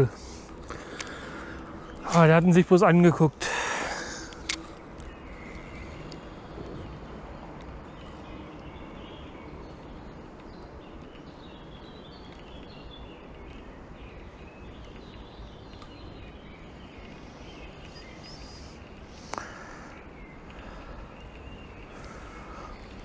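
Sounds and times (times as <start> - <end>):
low background noise: 0.0 - 23.0
small birds chirping: 0.0 - 23.0.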